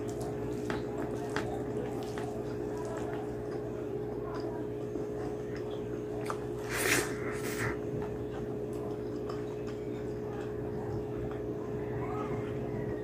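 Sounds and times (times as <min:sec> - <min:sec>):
soft wet chewing: 0:00.0 - 0:13.0
steady low hum: 0:00.0 - 0:13.0.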